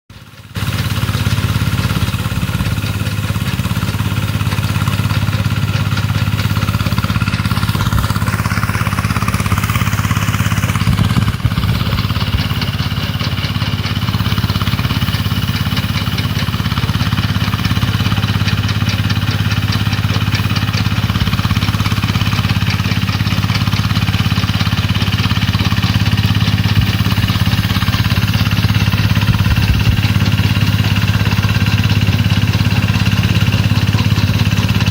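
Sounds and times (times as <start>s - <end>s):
small engine running steadily: 0.1s - 34.9s.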